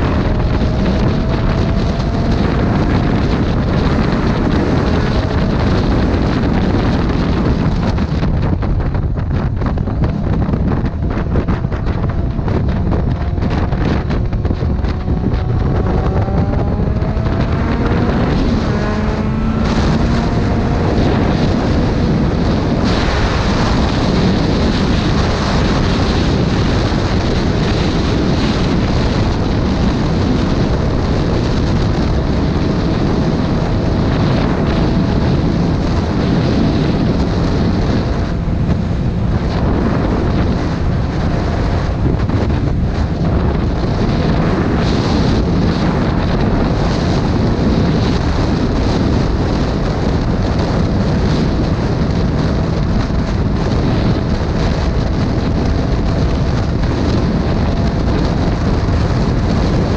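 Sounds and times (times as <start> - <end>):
motorcycle engine: 0.0 - 59.9
wind buffeting on microphone: 0.0 - 59.9.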